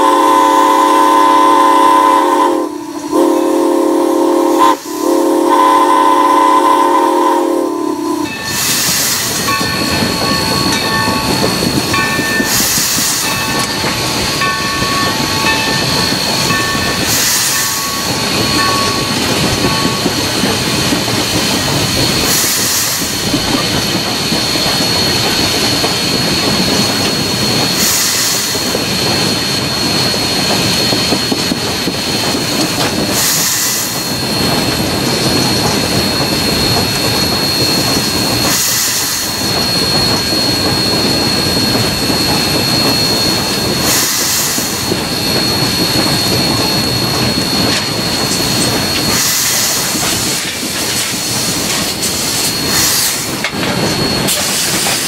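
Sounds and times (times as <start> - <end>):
steam hissing: 0.0 - 55.0
steam locomotive running on track: 0.0 - 55.0.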